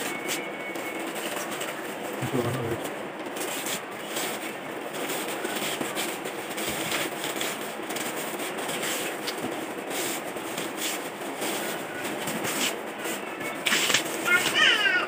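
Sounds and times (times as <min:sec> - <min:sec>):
bubble wrap crinkling: 0:00.0 - 0:14.8.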